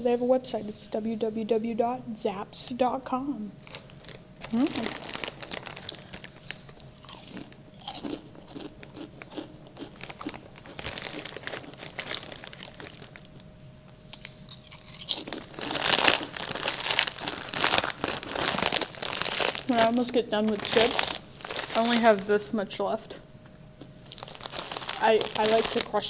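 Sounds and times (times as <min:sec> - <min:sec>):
person chewing potato chips: 0:03.6 - 0:22.4, 0:23.8 - 0:26.0.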